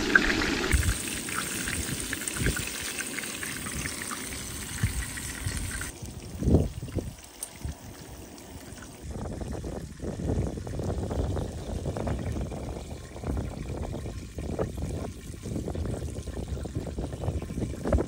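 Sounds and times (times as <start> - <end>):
fish frying in hot oil: 0.0 - 18.0.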